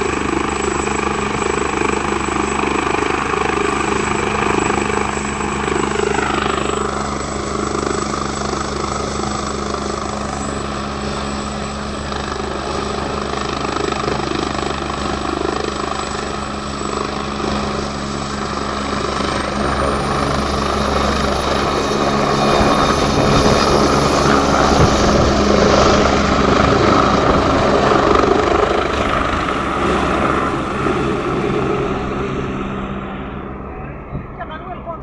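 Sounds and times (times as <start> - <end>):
helicopter flying past: 0.0 - 35.0.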